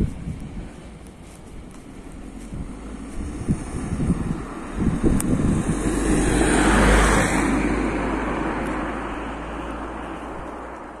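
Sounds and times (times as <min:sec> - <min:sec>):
car passing by: 0:01.8 - 0:11.0.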